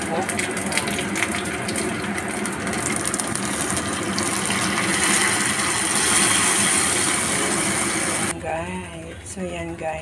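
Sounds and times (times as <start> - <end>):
sauce sizzling in hot oil: 0.0 - 8.3.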